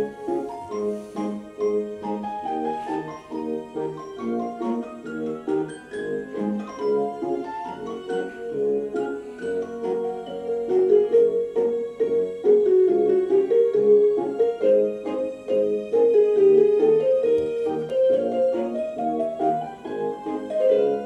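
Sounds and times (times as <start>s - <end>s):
light piano melody: 0.0s - 21.0s.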